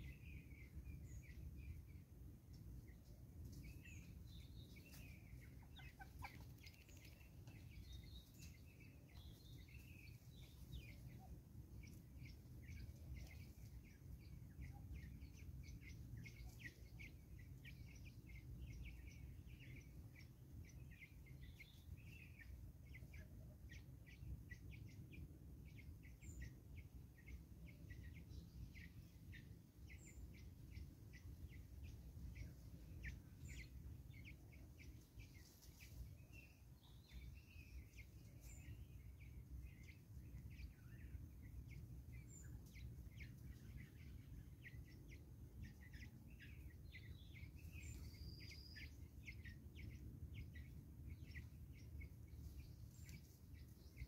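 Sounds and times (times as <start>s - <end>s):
birds chirping: 0.0s - 54.0s
low steady rumble: 0.0s - 54.0s.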